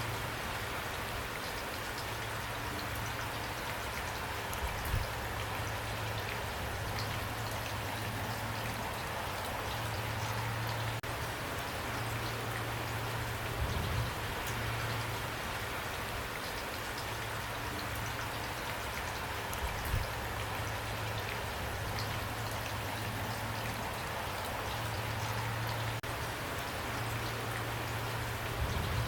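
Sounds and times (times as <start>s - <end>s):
raindrops ticking: 0.0s - 29.0s
steady rain falling: 0.0s - 29.0s.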